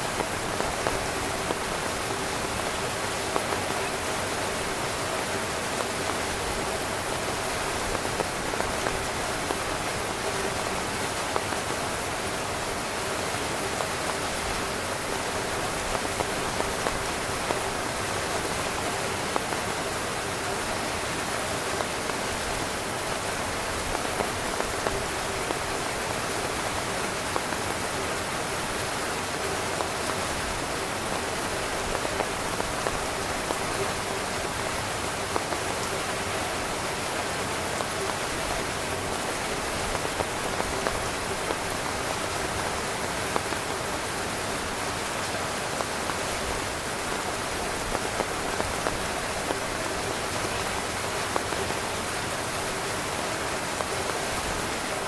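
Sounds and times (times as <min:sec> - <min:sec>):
heavy rain on tent fabric: 0:00.0 - 0:55.0.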